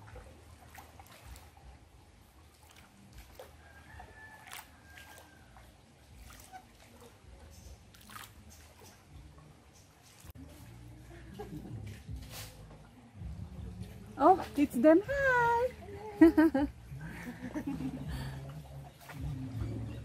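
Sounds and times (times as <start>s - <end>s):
water sloshing and trickling: 0.0s - 20.0s.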